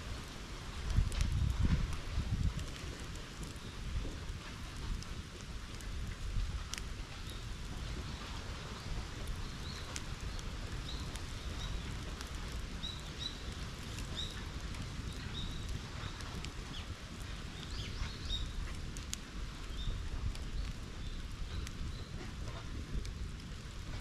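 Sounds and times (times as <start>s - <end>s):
bonfire crackling and popping: 0.0s - 24.0s.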